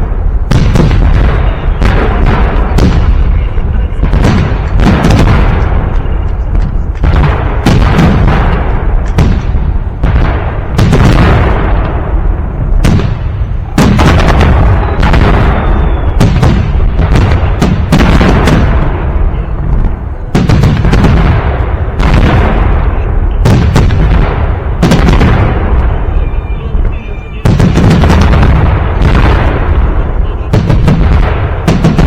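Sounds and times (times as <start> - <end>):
fireworks booming: 0.0 - 32.0
rumble and echo: 0.0 - 32.0.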